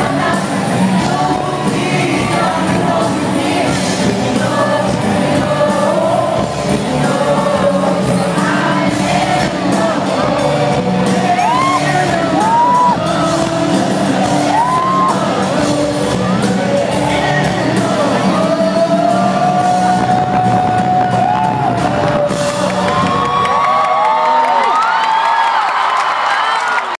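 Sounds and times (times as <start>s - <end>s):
pop-rock band over loud speakers: 0.0s - 25.0s
crowd screaming and whooping: 0.0s - 26.9s.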